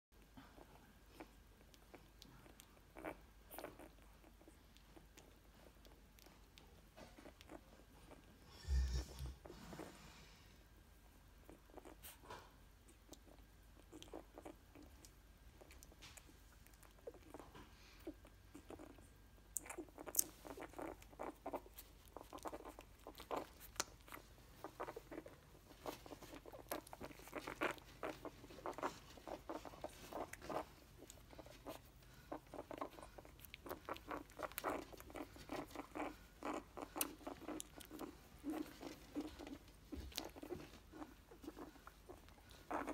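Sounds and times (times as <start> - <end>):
puppies suckling wet smacking: 0.2 - 8.4, 11.1 - 42.9.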